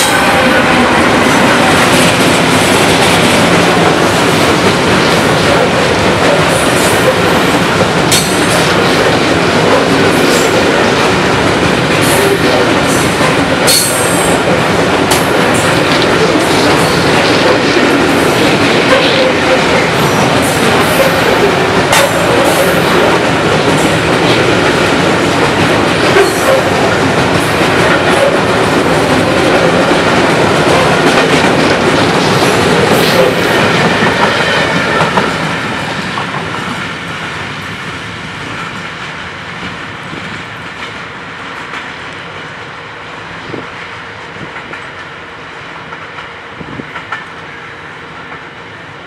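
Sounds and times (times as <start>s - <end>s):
freight train wagons rolling past: 0.0s - 49.0s.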